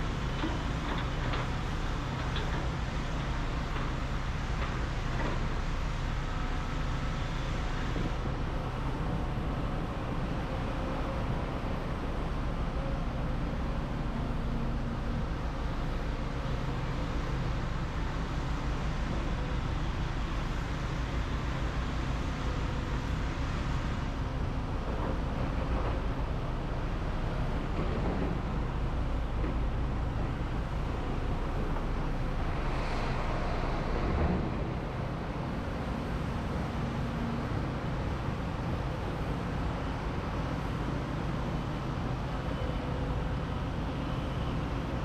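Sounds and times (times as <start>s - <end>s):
diesel machinery engine running: 0.0s - 45.0s.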